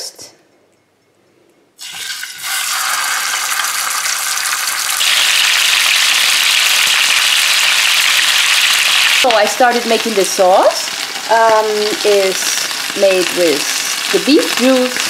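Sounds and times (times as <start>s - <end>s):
meat sizzling in oil: 1.8s - 15.0s.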